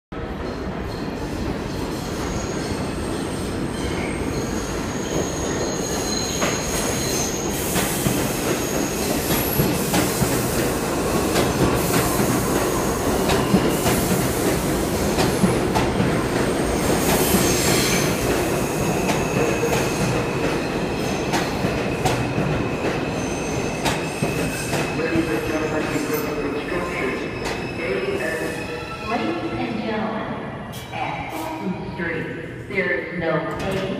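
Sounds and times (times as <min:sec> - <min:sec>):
train wheels rumbling on rail: 0:00.2 - 0:29.1.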